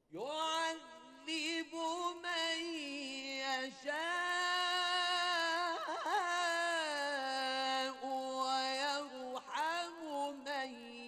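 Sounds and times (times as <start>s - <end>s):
person reciting melodically: 0.0s - 11.0s.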